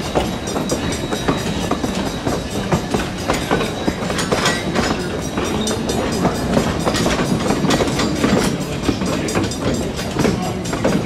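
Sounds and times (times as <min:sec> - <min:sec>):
train wheels clicking over rail joints: 0:00.0 - 0:11.0.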